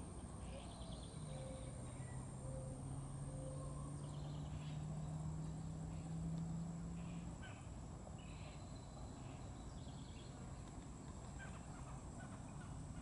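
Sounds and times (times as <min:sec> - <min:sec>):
low steady hum: 0:00.0 - 0:13.0
steady background hiss: 0:00.0 - 0:13.0.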